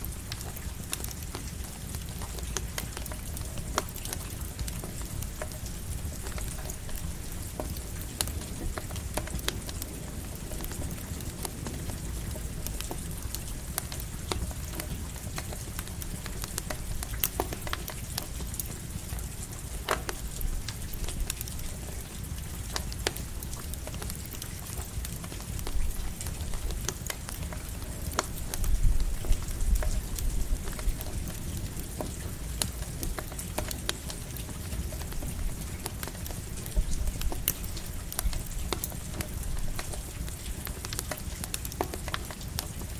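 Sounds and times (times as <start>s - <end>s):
campfire crackling and popping: 0.0s - 42.9s
light rain: 0.0s - 42.9s.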